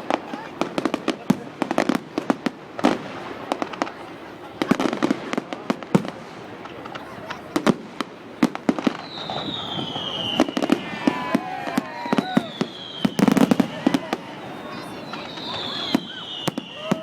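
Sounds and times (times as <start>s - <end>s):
fireworks bangs and crackles: 0.0s - 17.0s
whistling firework: 0.0s - 17.0s.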